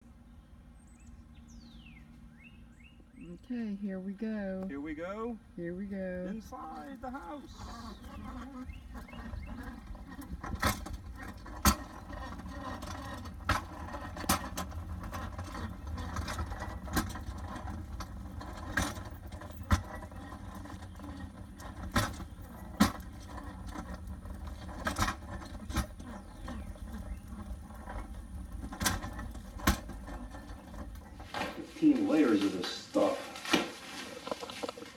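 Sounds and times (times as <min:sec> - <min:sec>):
hand truck wheels rumbling on concrete: 0:00.8 - 0:34.9
wheels clacking over slab joints: 0:01.7 - 0:34.9.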